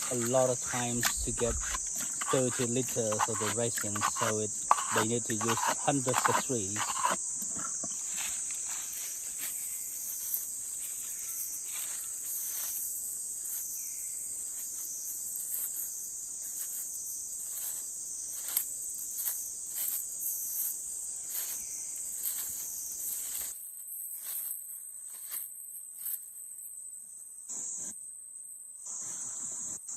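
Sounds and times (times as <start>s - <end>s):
high-pitched insect chorus: 0.0s - 29.9s.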